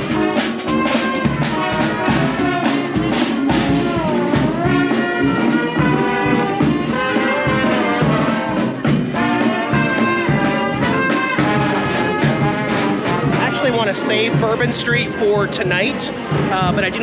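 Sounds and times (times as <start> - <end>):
brass band playing: 0.0 - 17.0
steady drum beat: 0.0 - 17.0.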